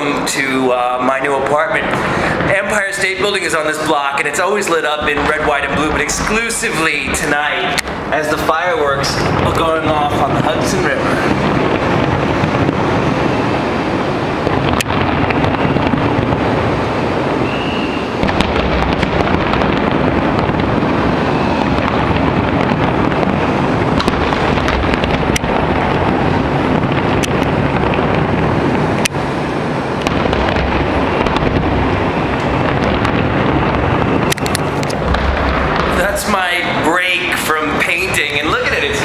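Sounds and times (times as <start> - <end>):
fireworks bangs and cracks: 0.0 - 39.0
wind noise on microphone: 1.2 - 39.0.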